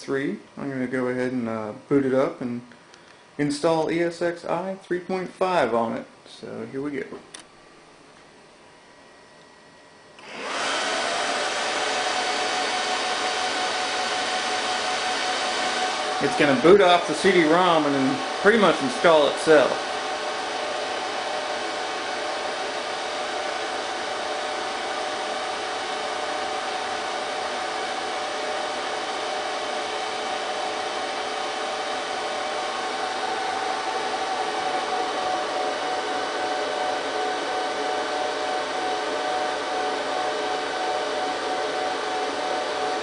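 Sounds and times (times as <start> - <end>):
server cooling fans whirring: 0.0 - 43.0.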